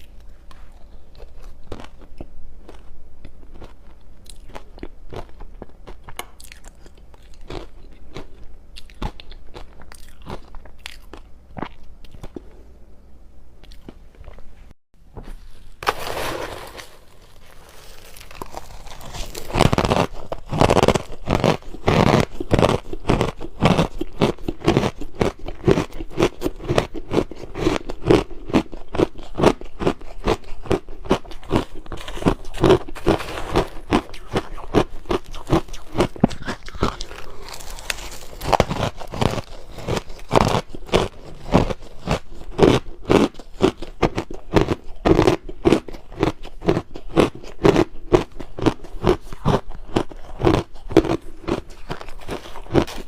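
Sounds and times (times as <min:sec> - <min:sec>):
crushed ice being chewed: 0:00.0 - 0:12.5, 0:15.8 - 0:53.0.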